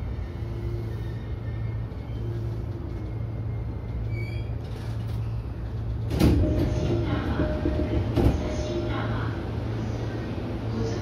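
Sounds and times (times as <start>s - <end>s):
electric train low hum: 0.0s - 11.0s.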